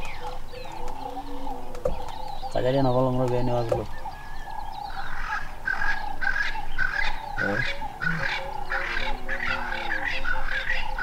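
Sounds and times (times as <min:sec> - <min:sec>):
birds honking calls: 0:00.0 - 0:11.0
faint birds calling: 0:00.0 - 0:11.0.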